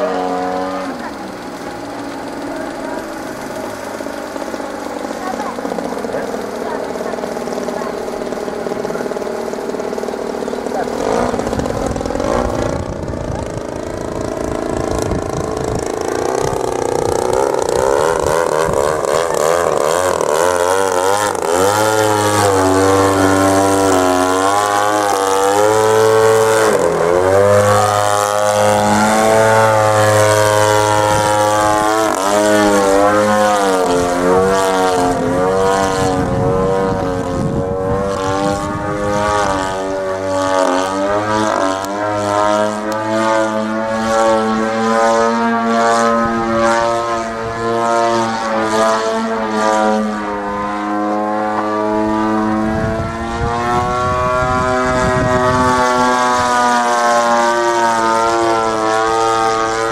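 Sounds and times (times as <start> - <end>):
model plane engine: 0.0 - 59.9.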